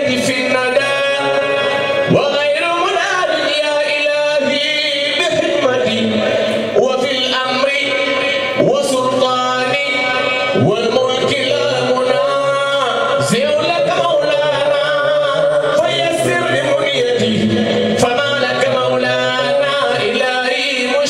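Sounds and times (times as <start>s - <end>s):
man chanting into a microphone: 0.0s - 21.0s.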